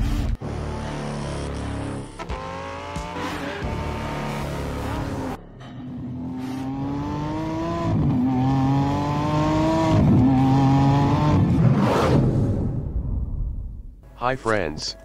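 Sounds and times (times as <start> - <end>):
sports car engine accelerating: 0.1 - 12.7.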